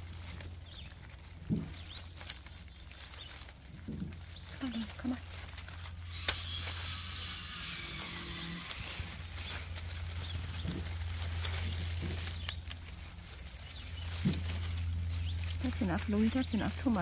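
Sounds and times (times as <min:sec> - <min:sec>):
dry leaves rustling and crackling: 0:00.0 - 0:17.0
steady low hum: 0:00.0 - 0:17.0.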